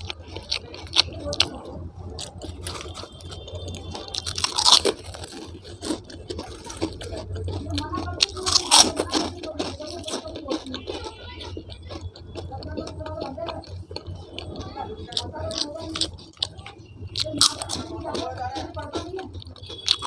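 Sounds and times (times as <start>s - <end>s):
person chewing and crunching: 0.0s - 20.0s.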